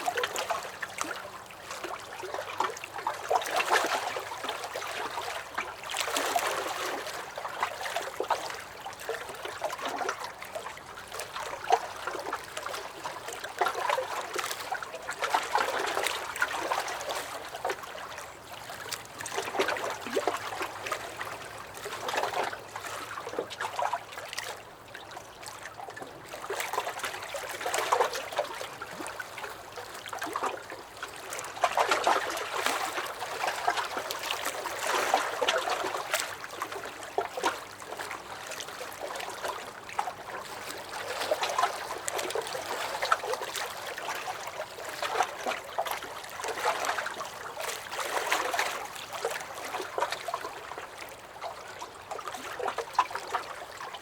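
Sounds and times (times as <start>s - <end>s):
waves lapping against a dock: 0.0s - 54.0s.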